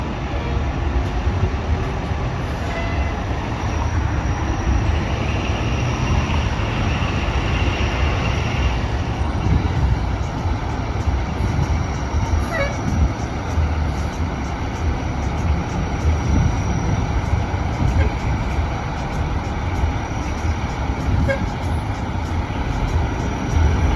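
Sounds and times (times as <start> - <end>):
heavy vehicle rumble: 0.0 - 23.9.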